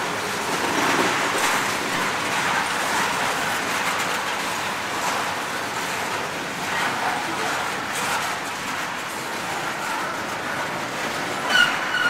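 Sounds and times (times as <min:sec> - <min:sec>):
steel wheels rolling on rails: 0:00.0 - 0:12.0.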